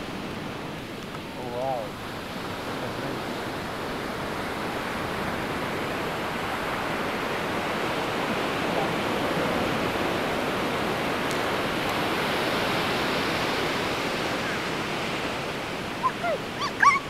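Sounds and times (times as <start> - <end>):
ocean waves on beach: 0.0 - 17.0.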